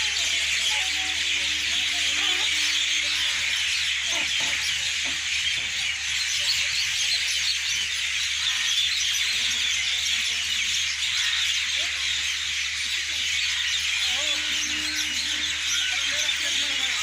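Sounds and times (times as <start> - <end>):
many small birds chirping: 0.0 - 17.0.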